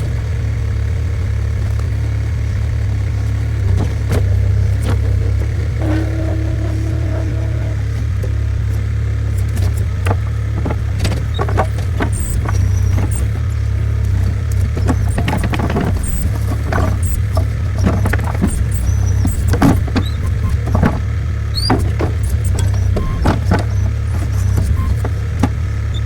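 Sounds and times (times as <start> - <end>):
skid steer engine running: 0.0 - 26.0
machine clanks and knocks: 3.6 - 26.0.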